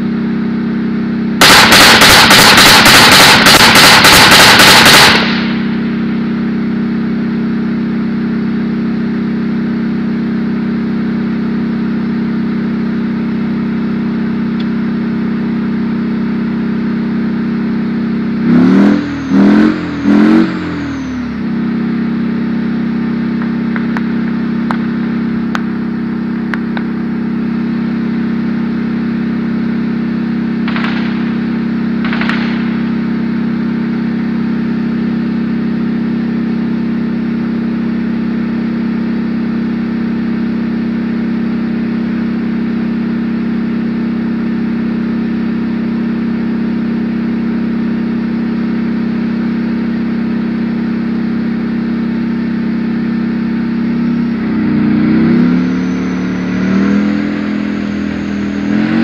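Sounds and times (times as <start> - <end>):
tank engine idling and revving: 0.0 - 59.0.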